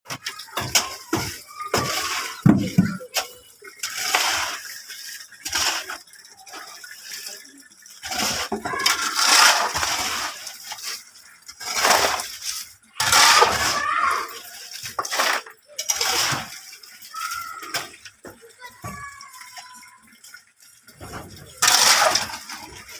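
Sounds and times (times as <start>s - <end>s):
wet concrete splashing and scraping: 0.1s - 22.9s.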